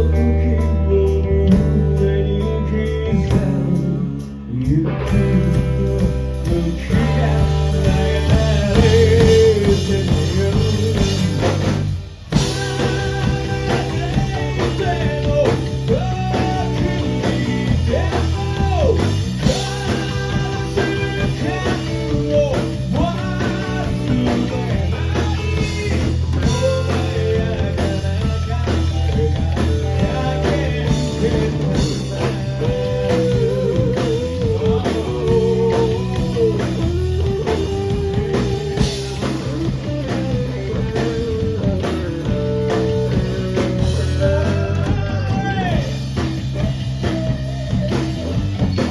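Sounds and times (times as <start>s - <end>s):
person singing: 0.0s - 11.4s, 12.4s - 37.3s, 42.6s - 46.0s
rock band playing live: 0.0s - 48.9s.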